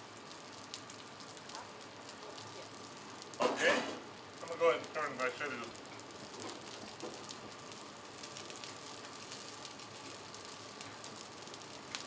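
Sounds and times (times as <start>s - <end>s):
chicken wings sizzling on griddle: 0.0s - 12.0s.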